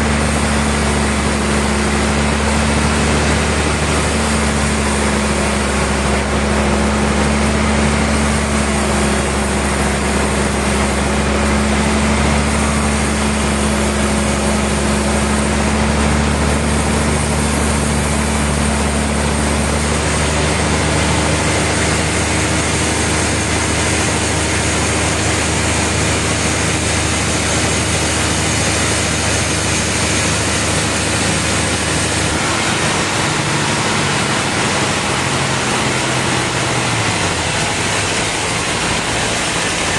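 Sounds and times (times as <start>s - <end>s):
low motor hum: 0.0s - 39.9s
sawmill machinery din: 0.0s - 39.9s
steady machine tones: 0.0s - 39.9s.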